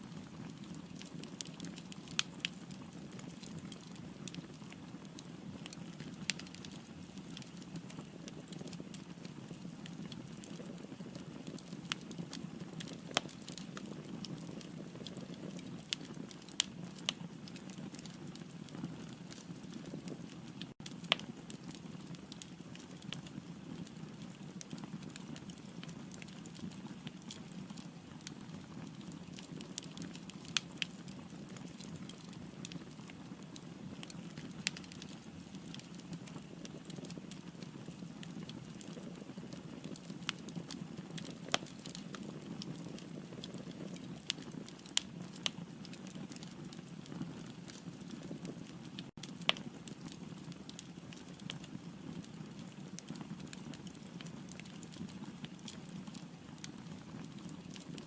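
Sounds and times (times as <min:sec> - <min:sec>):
burning logs crackling and popping: 0:00.0 - 0:58.0.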